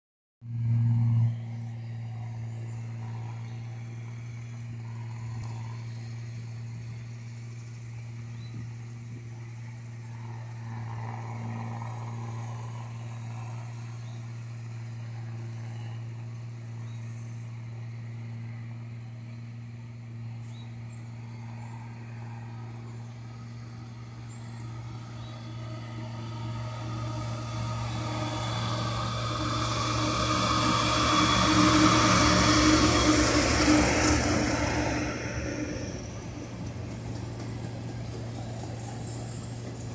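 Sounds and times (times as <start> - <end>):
steady low hum: 0.4 - 39.9
freight train rolling past: 0.5 - 39.9.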